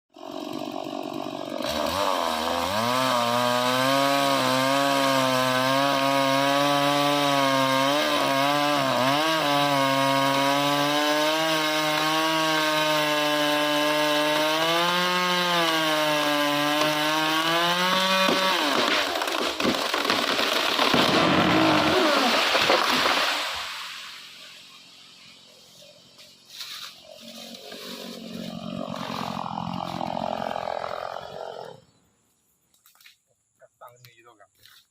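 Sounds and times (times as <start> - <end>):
chainsaw cutting into tree: 0.1 - 24.3, 27.4 - 31.7.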